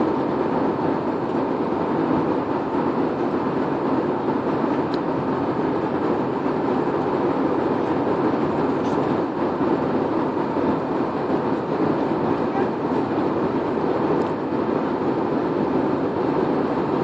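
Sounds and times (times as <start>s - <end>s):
airliner cabin engine roar: 0.0s - 17.0s.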